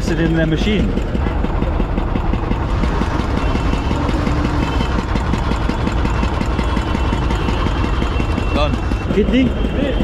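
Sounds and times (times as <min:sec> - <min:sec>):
small engine knocking steadily: 0:00.0 - 0:10.0.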